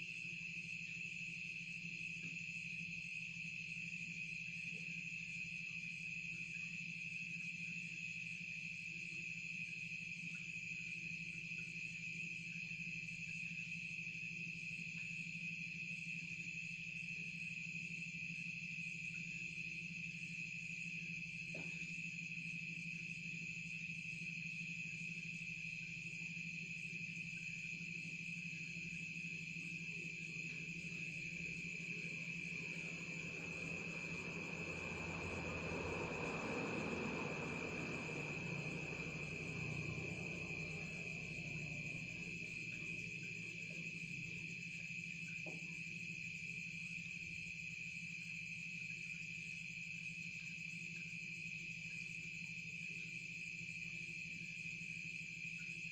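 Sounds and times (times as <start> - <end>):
crickets and insects trilling: 0.0 - 55.9.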